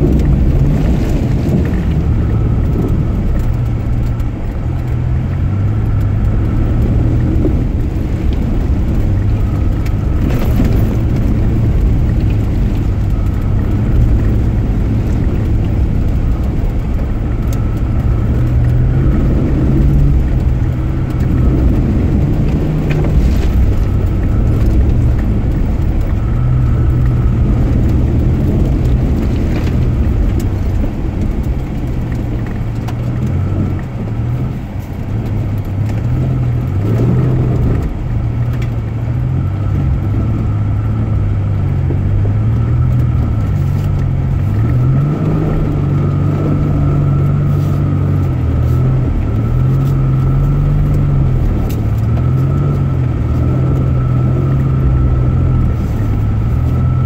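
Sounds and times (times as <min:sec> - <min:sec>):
car engine revving: 0:00.0 - 0:57.0
rough rumble of driving off-road: 0:00.0 - 0:57.0.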